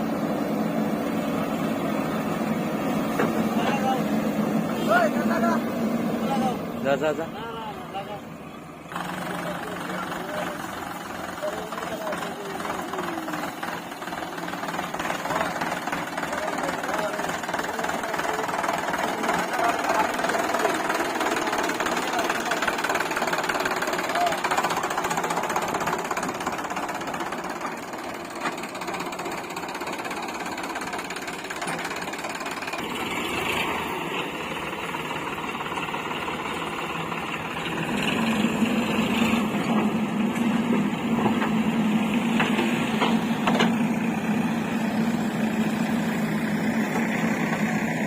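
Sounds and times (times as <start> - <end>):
diesel engines running: 0.0 - 48.0.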